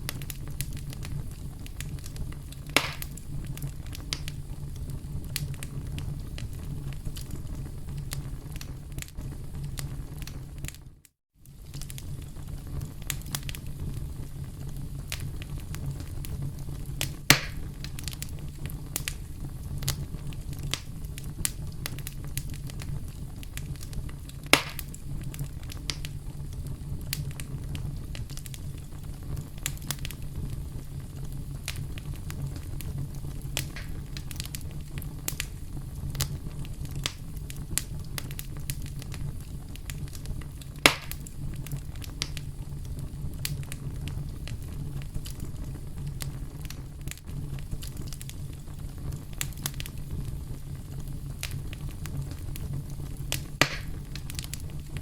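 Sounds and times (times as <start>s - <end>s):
campfire flames rushing: 0.0s - 55.0s
wood crackling and popping: 0.0s - 55.0s.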